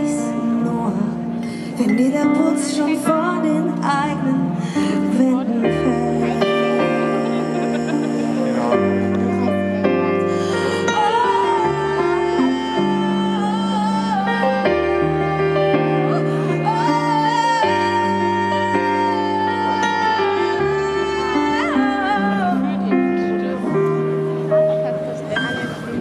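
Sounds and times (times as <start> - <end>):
live pop song instrumental: 0.0 - 26.0.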